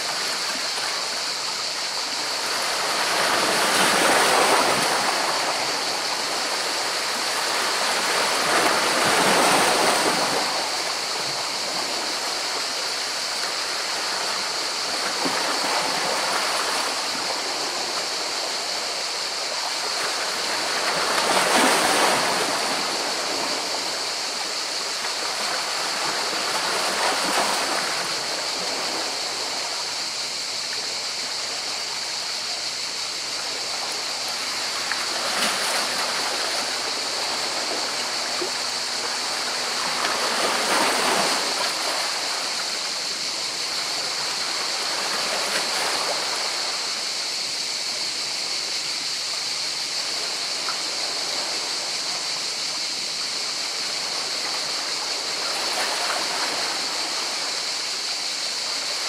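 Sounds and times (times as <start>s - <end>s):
waves breaking: 0.0s - 52.6s, 53.3s - 59.0s.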